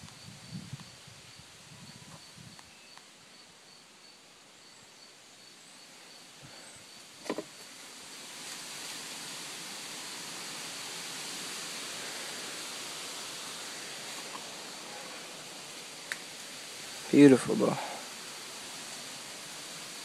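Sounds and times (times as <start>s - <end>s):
steady rushing hiss: 0.0s - 20.0s.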